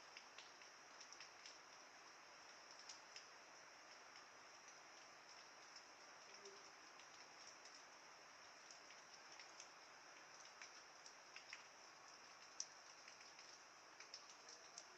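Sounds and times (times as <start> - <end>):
faint rain hiss: 0.0 - 14.9
raindrops ticking: 0.0 - 14.9.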